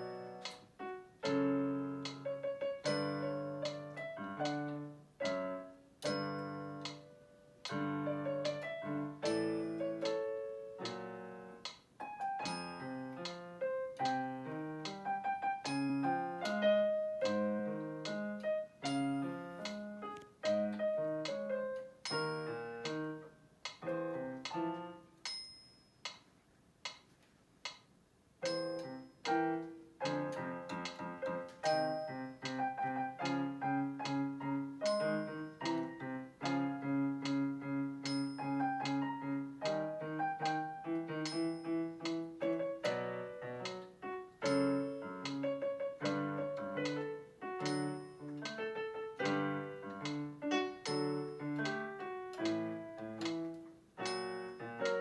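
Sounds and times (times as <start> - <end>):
solo piano ballad: 0.0 - 25.4, 28.4 - 55.0.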